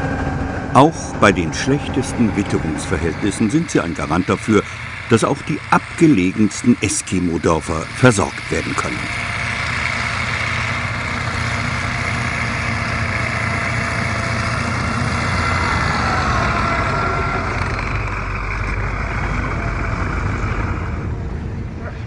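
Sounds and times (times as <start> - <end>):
tracked vehicle engine running: 0.0 - 22.0.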